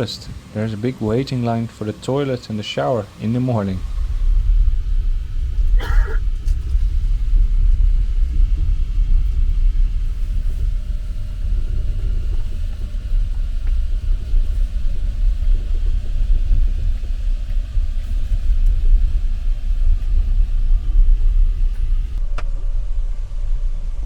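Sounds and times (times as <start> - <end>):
passenger train rumbling on rails: 0.0 - 24.0.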